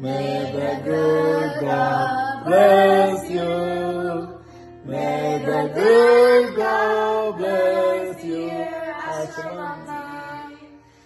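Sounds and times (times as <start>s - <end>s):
adults and children singing together: 0.0s - 10.8s.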